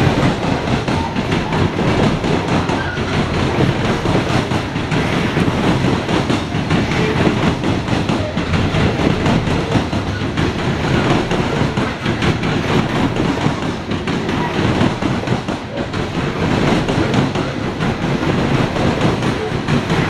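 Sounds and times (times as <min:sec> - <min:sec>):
freight train wheels rumbling on rail: 0:00.0 - 0:20.0
wheels clicking over rail joints: 0:00.0 - 0:20.0.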